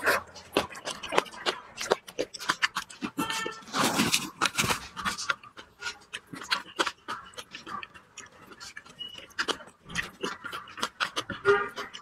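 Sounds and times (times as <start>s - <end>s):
chewing and lip smacks: 0.0s - 12.0s.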